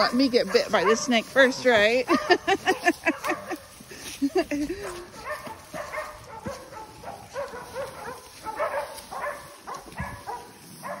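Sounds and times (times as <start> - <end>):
dogs barking: 0.0 - 3.9, 4.6 - 11.0.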